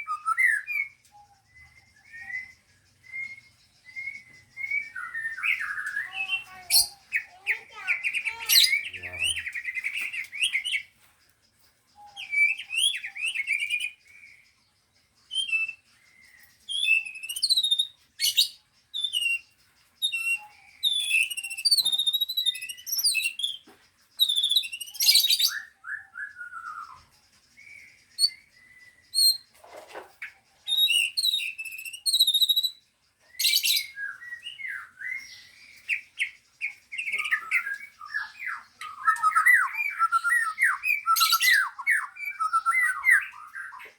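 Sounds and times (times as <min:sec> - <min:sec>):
caged songbirds singing: 0:00.0 - 0:43.9.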